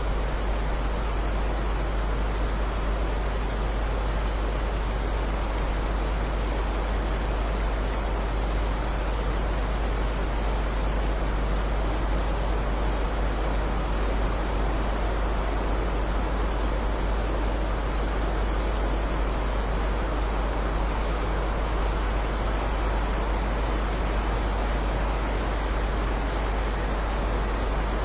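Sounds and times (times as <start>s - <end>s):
heavy rainfall: 0.0s - 28.0s.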